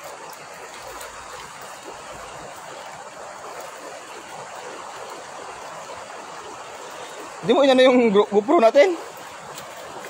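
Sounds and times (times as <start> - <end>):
shallow water running: 0.0 - 10.0.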